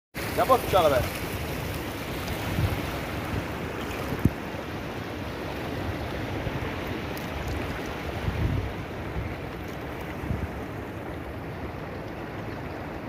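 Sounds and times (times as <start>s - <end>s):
water sloshing around wader: 0.2s - 13.0s
wind rumbling on microphone: 0.2s - 13.0s.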